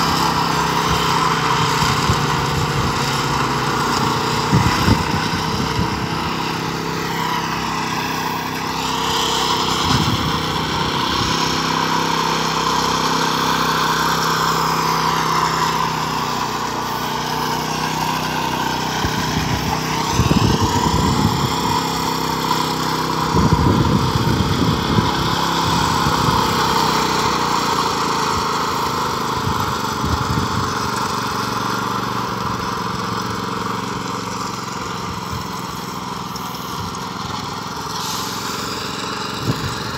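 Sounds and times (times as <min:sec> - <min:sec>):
power trowel engine running: 0:00.0 - 0:39.9.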